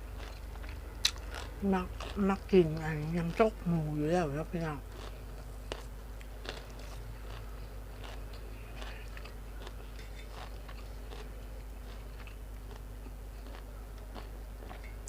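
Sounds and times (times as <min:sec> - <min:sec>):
person chewing food: 0:00.0 - 0:03.8, 0:04.7 - 0:15.0
faint low hum: 0:00.0 - 0:15.0.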